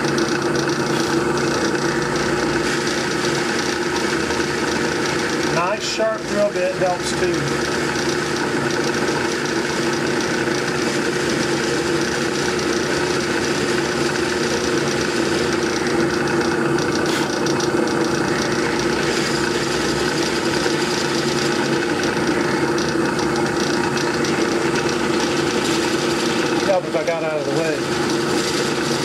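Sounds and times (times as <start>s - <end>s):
drill press humming: 0.0s - 29.0s.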